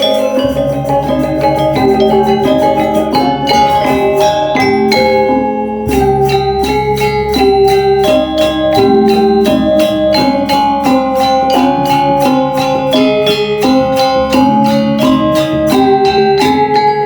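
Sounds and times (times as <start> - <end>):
metallophones struck: 0.0 - 17.0.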